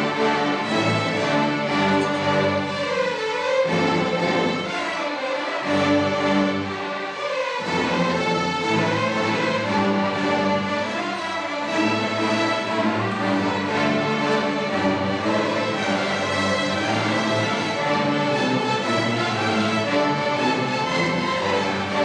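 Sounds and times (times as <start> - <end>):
string orchestra sustained chords: 0.0 - 22.0.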